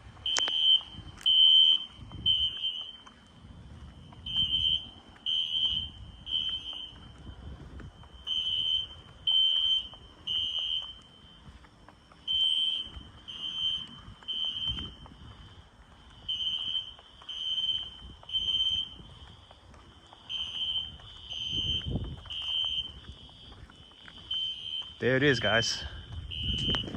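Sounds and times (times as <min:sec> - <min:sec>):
fire alarm horn blasts: 0:00.0 - 0:26.9.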